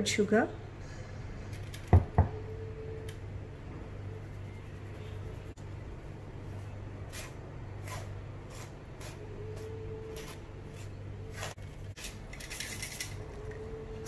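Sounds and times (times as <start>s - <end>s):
steady low hum: 0.5s - 14.0s.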